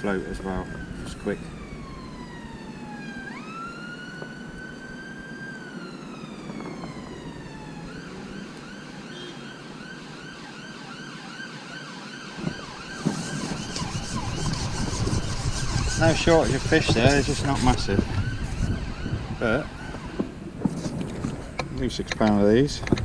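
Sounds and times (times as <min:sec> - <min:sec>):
emergency siren wailing and yelping: 0:00.0 - 0:20.6.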